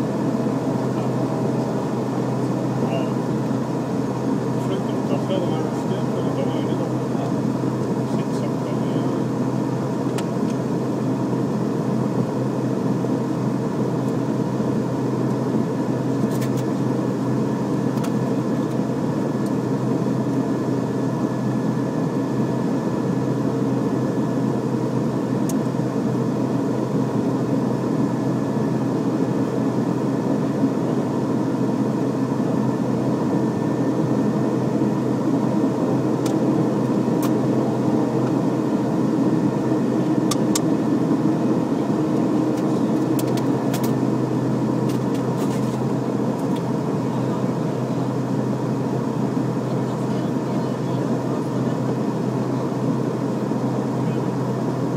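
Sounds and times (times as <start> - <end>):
steady engine whine: 0.0 - 54.9
turboprop engines droning: 0.0 - 54.9.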